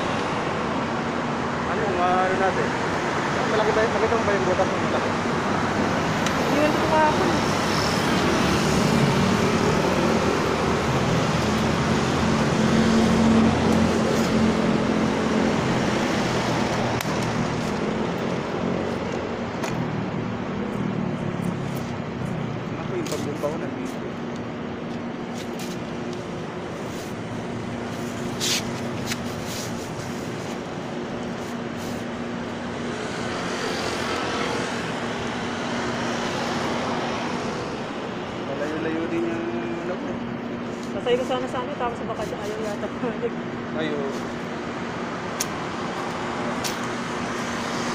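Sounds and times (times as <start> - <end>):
city traffic rushing: 0.0 - 47.9.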